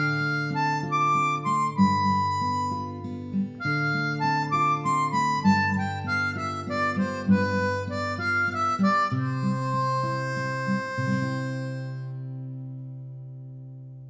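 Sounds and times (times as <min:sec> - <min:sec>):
instrumental background music: 0:00.0 - 0:12.8.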